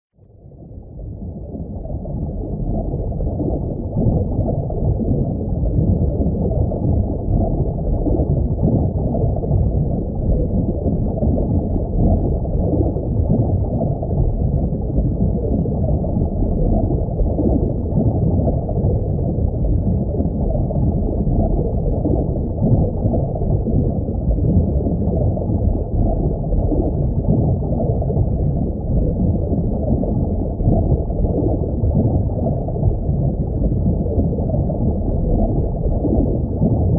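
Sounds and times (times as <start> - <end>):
muffled underwater rumble: 0.1 - 36.9.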